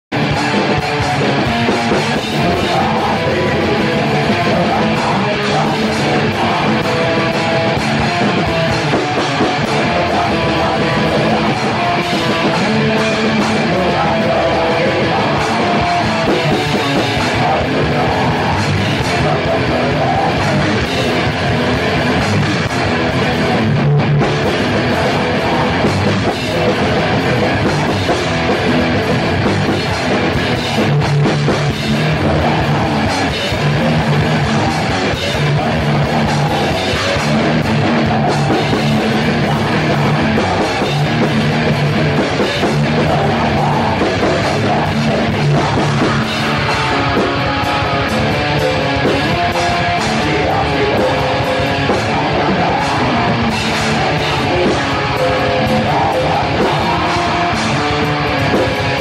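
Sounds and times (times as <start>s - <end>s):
recorded metal guitars: 0.0s - 59.0s.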